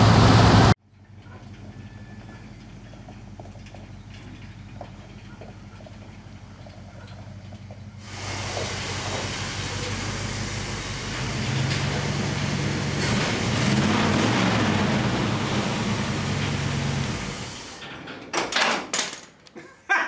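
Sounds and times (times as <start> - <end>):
truck engine idling: 0.0 - 17.9.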